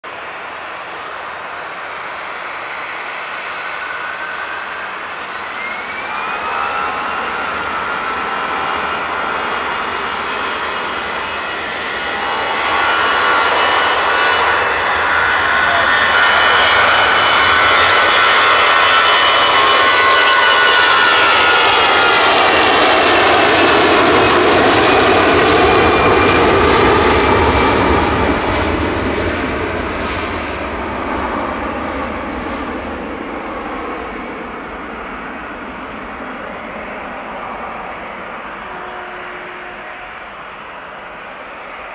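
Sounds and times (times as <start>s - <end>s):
jet engines with fan whine: 0.1s - 41.9s.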